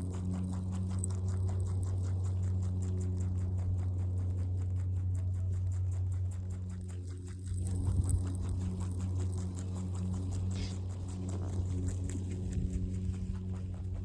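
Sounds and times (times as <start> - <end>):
rabbit chewing: 0.0 - 14.0
steady low hum: 0.0 - 14.0.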